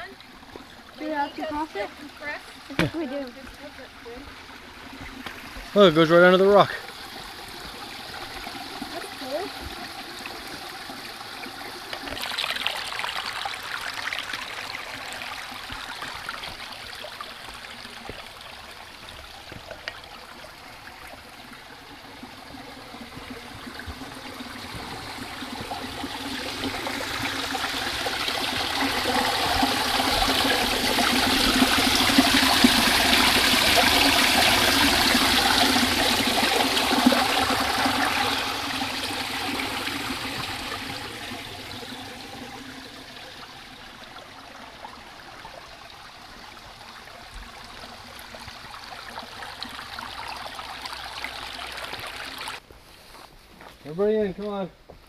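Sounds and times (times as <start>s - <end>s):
stream running: 0.0s - 54.7s.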